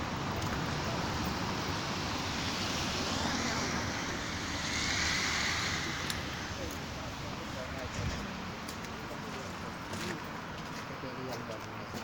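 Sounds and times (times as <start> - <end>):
car driving off: 0.0 - 9.9.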